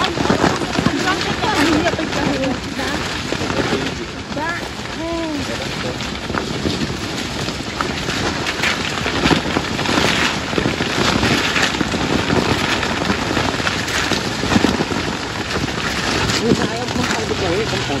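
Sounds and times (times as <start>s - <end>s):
branches and leaves rustling: 0.0s - 18.0s
cherries dropping onto tarps: 0.0s - 18.0s.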